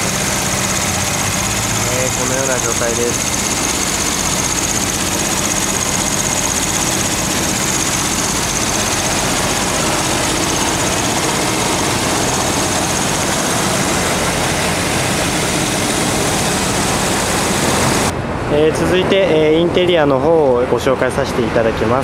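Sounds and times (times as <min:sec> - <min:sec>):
car engine idling: 0:00.0 - 0:18.1.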